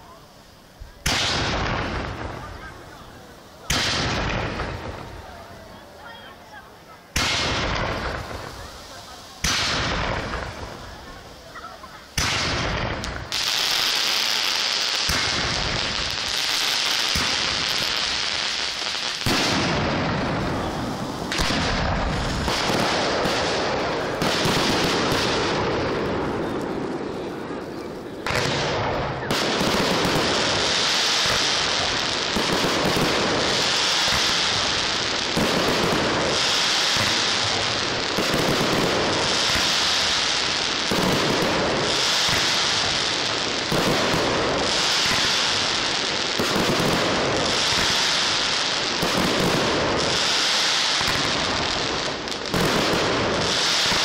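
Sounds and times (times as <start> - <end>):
fireworks hissing and crackling: 0.0 - 54.0
fireworks launches and bursts: 0.0 - 54.0.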